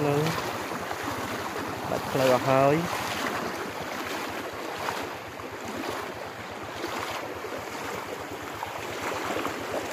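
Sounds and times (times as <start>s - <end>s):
floodwater rushing: 0.0s - 9.9s.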